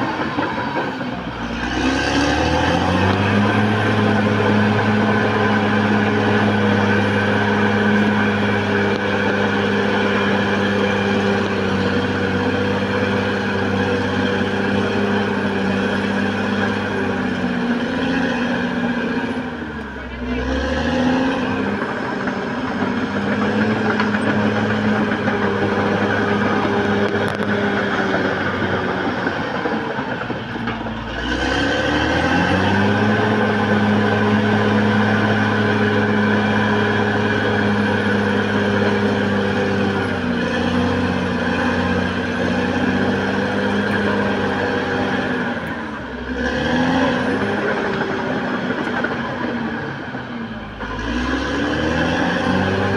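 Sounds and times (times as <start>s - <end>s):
bulldozer diesel engine running hard: 0.0s - 52.9s.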